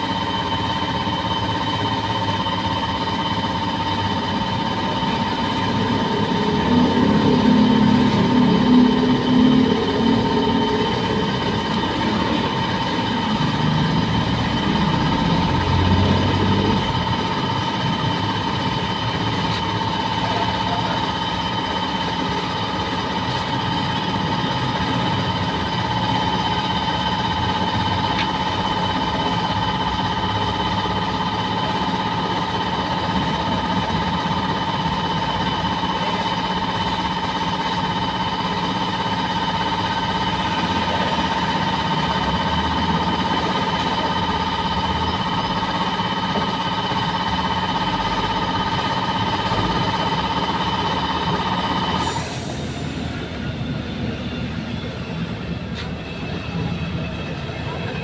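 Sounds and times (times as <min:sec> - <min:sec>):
engine running with whine: 0:00.0 - 0:58.0.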